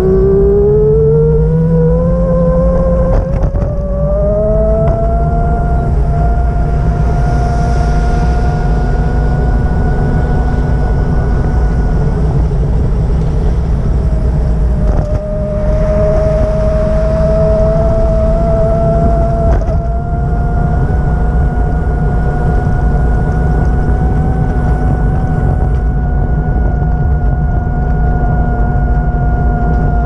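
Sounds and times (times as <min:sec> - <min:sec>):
vehicle engine rumble and whine: 0:00.0 - 0:30.0.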